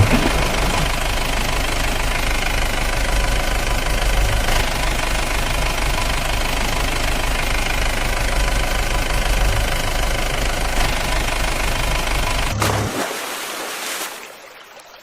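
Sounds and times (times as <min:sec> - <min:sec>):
toy engine knocking hum: 0:00.0 - 0:12.6.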